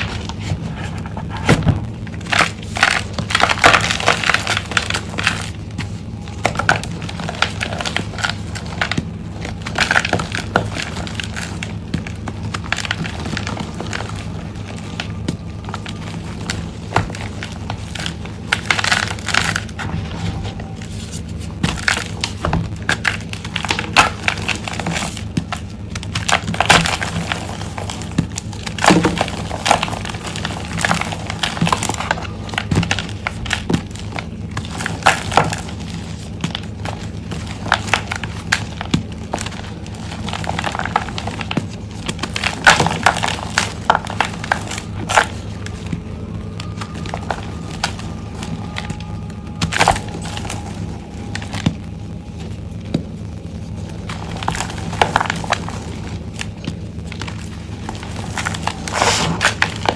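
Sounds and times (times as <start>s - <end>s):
chalk blocks crunching by hand: 0.0s - 59.9s
faint low hum: 0.0s - 59.9s.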